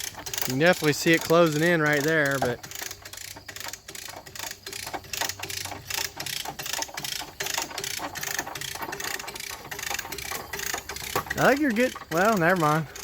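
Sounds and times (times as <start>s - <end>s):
ratchet pawl clicking: 0.0s - 13.0s.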